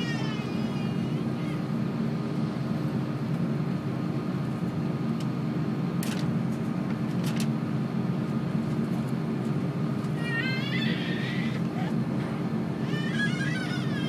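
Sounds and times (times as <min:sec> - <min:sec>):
aircraft cabin drone: 0:00.0 - 0:14.0.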